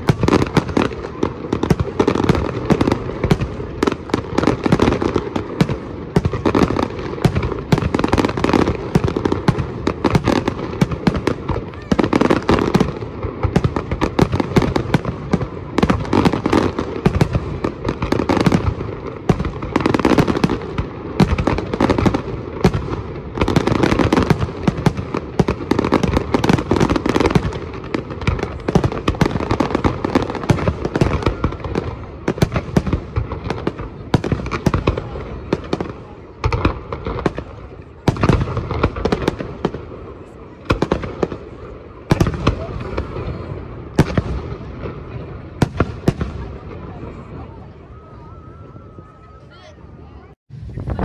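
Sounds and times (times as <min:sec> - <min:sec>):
fireworks bangs and pops: 0:00.0 - 0:47.7.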